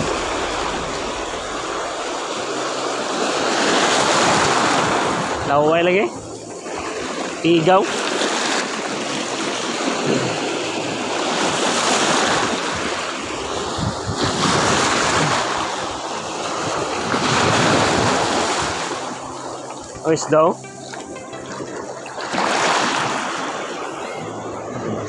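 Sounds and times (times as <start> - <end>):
surf washing over pebbles: 0.0 - 24.2.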